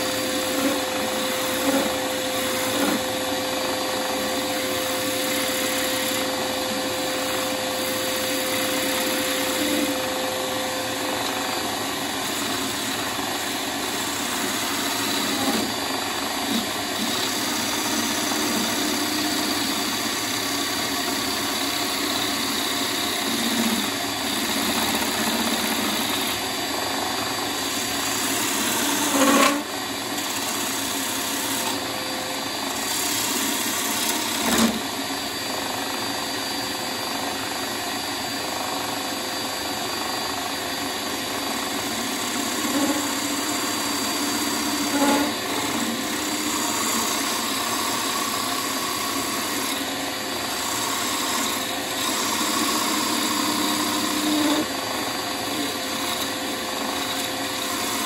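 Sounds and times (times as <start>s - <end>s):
wood lathe cutting a bowl: 0.0s - 58.0s.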